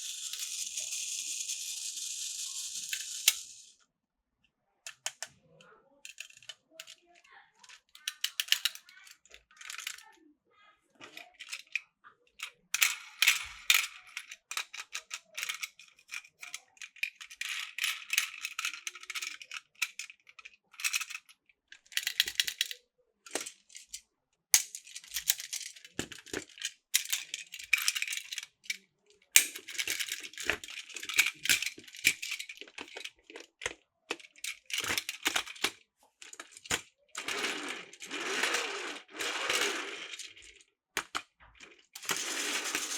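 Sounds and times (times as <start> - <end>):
plastic toy track clicking and rattling: 0.0 - 3.8, 4.9 - 10.2, 11.0 - 24.0, 24.6 - 42.9.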